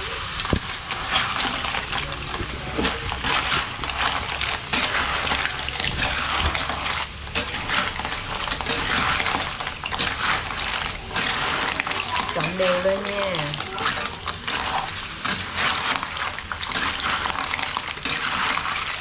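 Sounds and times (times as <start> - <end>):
spatula scraping a wok: 0.0 - 19.0.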